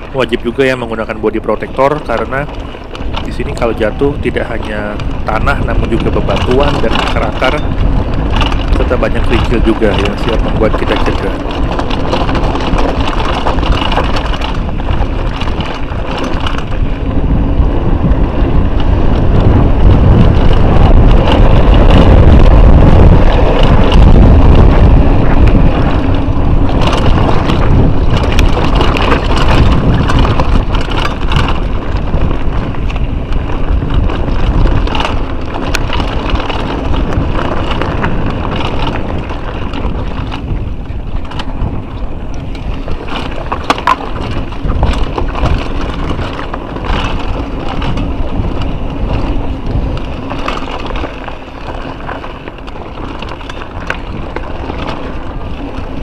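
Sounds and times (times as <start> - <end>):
bike rattling over stones: 0.0 - 56.0
wind buffeting microphone: 0.0 - 56.0.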